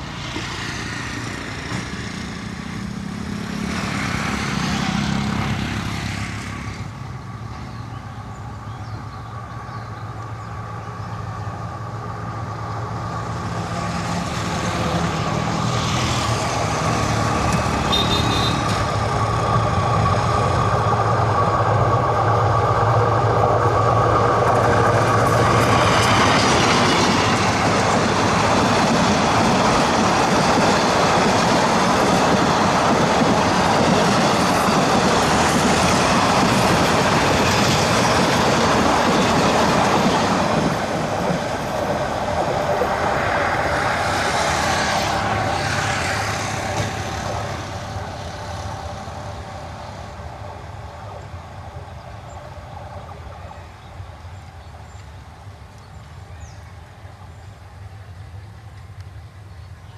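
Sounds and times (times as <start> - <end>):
locomotive engine droning: 0.0 - 59.9
train wheels rumbling on rails: 0.0 - 59.9.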